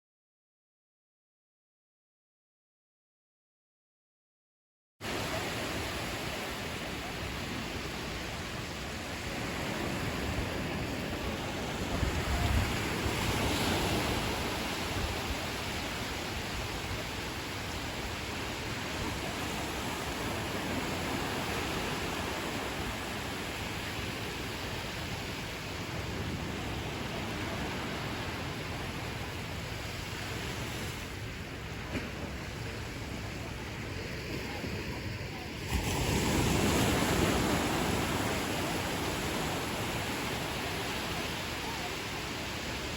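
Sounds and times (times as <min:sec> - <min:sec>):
ocean surf washing onto beach: 0:05.0 - 0:42.9
wave breaking: 0:05.0 - 0:42.9.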